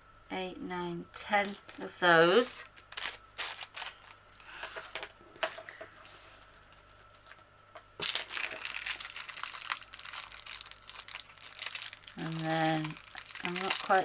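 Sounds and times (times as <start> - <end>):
plastic packaging crinkling: 1.4 - 14.0.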